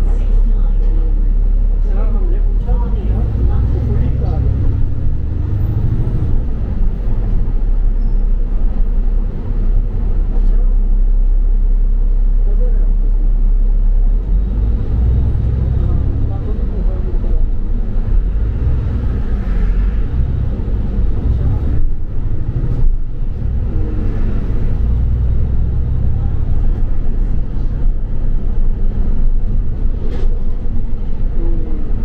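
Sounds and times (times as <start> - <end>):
bus engine and road rumble: 0.0 - 32.0.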